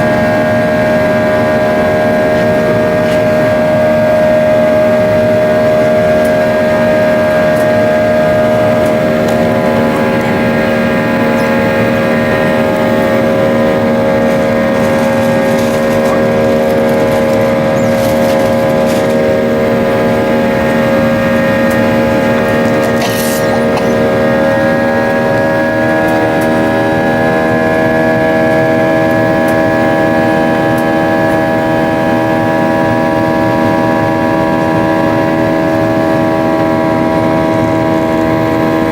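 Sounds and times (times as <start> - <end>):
jet engines heard from cabin: 0.0 - 38.9.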